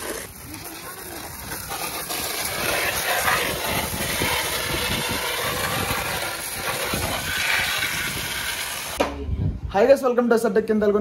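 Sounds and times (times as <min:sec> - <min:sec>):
pressure washer water jet hiss: 0:00.0 - 0:09.0.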